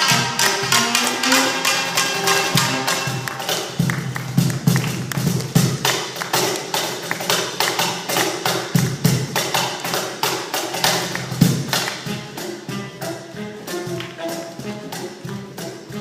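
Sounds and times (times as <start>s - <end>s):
shamisen and percussion music: 0.0s - 16.0s.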